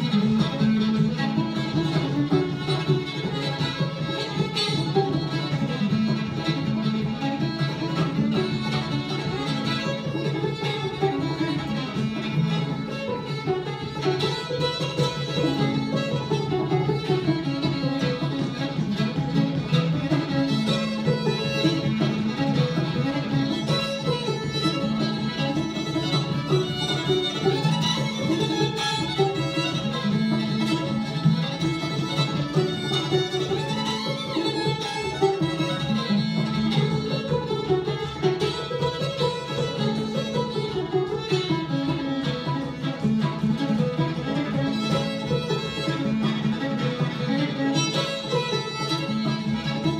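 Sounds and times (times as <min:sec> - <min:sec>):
fiddle melody: 0:00.0 - 0:49.9
picked banjo: 0:00.0 - 0:49.9.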